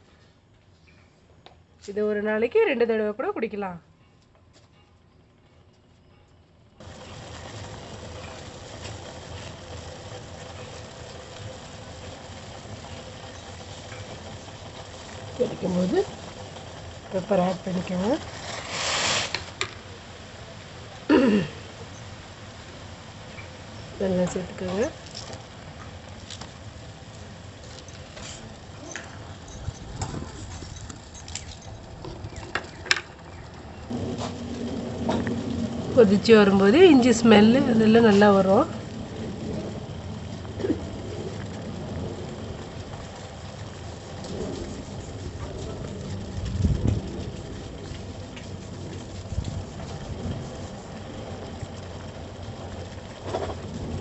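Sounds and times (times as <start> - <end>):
pot boiling: 6.8 - 54.0
steady hiss: 6.8 - 54.0.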